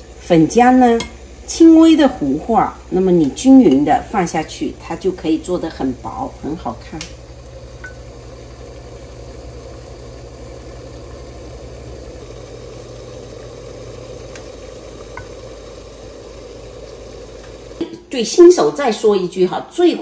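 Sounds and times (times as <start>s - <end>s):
water boiling in a pot: 0.0s - 20.0s.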